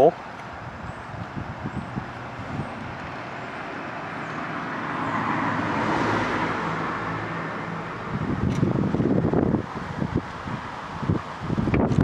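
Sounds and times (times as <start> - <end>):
road vehicle passing by: 0.1 - 11.6.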